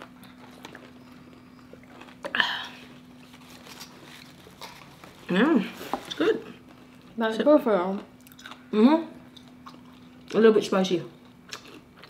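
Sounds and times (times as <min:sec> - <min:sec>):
soft chewing: 0:00.0 - 0:07.2, 0:07.9 - 0:10.4, 0:11.2 - 0:12.0
faint steady hum: 0:00.0 - 0:12.0.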